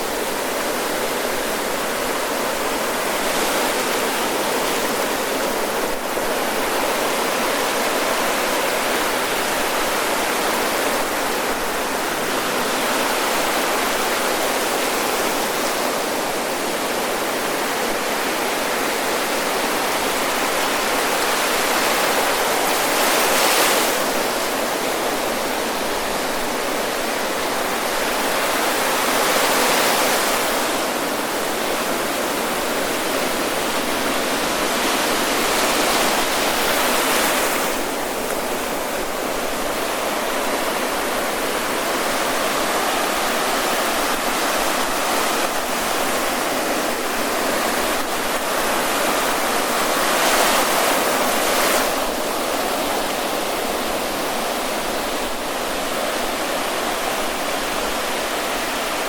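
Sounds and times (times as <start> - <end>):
ocean surf on sandy beach: 0.0 - 59.0.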